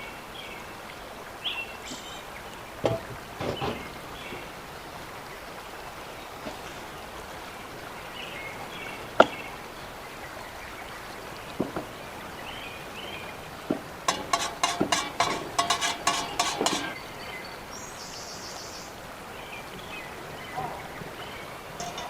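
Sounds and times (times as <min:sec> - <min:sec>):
outdoor background: 0:00.0 - 0:22.0.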